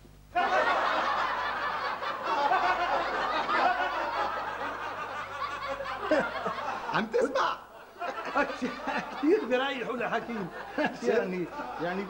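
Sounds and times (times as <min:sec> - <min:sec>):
audience laughter: 0:00.4 - 0:12.0.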